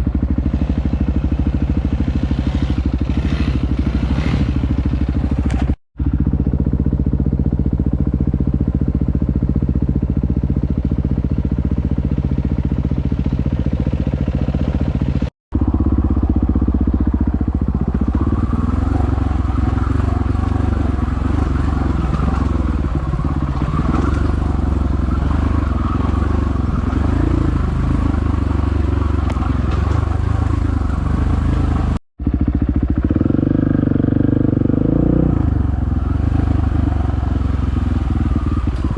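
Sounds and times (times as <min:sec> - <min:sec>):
dirt bike engine revving: 0:00.0 - 0:06.2, 0:06.8 - 0:38.9.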